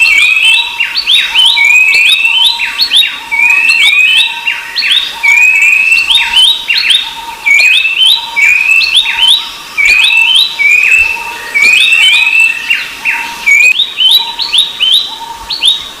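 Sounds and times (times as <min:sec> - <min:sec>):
babbler song whistled notes: 0:00.0 - 0:16.0.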